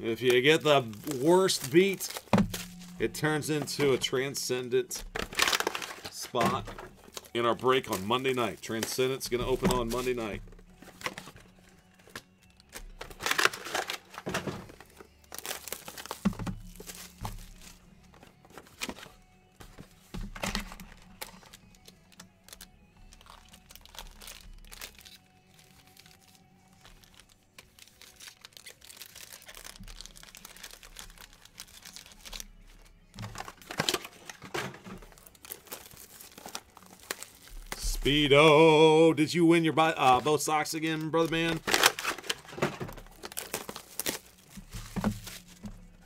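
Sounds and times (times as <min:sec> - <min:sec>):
faint music: 0:00.0 - 0:46.0
plastic wrapping crinkling and tearing: 0:00.0 - 0:46.0.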